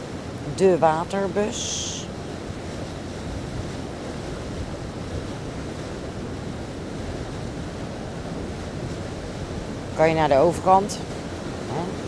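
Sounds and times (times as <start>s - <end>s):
wind and water rushing: 0.0s - 12.0s.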